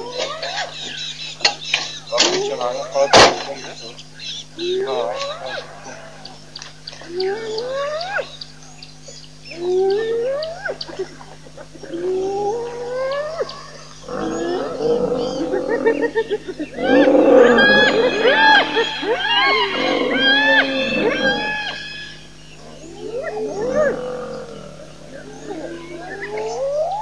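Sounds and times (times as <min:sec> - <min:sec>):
hyenas whooping: 0:00.0 - 0:27.0
hyenas yelling and chattering: 0:00.0 - 0:27.0.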